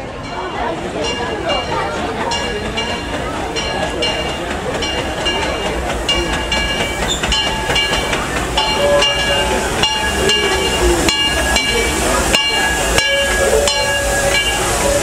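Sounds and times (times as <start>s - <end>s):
locomotive bell ringing: 0.0s - 15.0s
train rumble: 0.0s - 15.0s.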